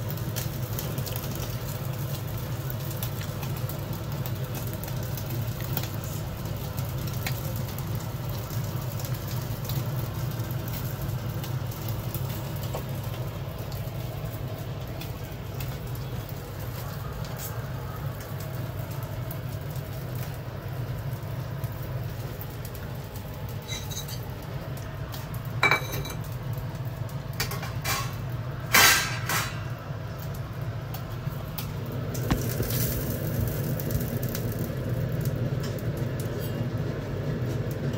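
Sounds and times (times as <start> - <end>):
gas burner low rumble: 0.0 - 37.9.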